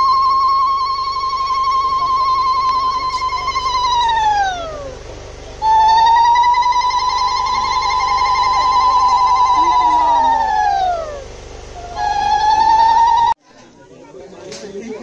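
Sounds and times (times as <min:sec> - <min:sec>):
high siren-like tone: 0:00.0 - 0:05.0, 0:05.6 - 0:13.4.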